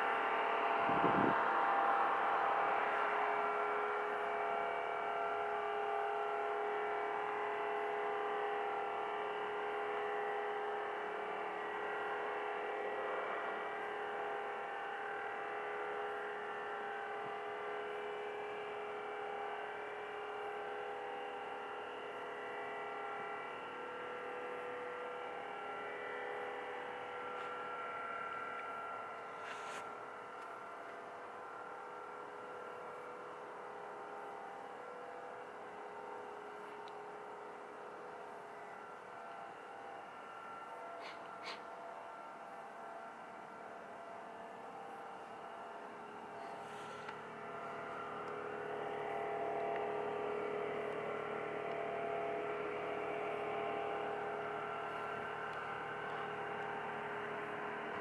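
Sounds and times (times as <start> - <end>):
droning hum of held tones: 0.0 - 58.0.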